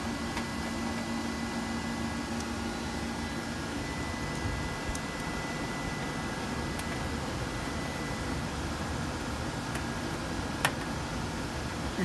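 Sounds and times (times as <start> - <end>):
cooling fans whirring: 0.0 - 12.0.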